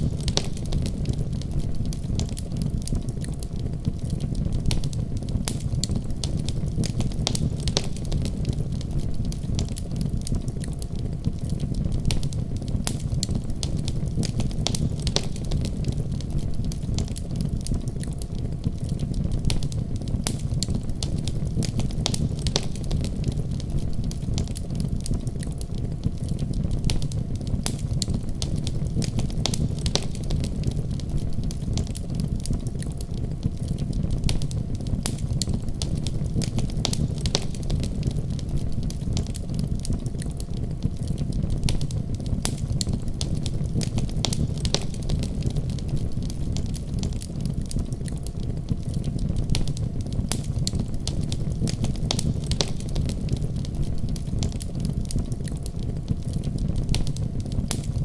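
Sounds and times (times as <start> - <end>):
low rumble of flames: 0.0 - 58.0
wood fire crackling: 0.0 - 58.0.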